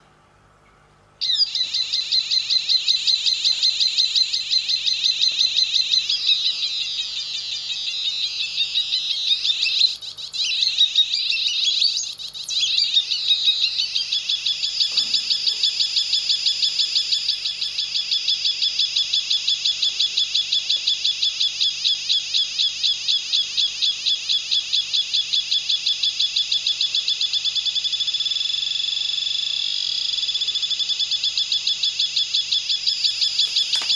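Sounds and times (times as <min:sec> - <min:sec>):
warbling electronic siren chirp: 0:01.2 - 0:33.9.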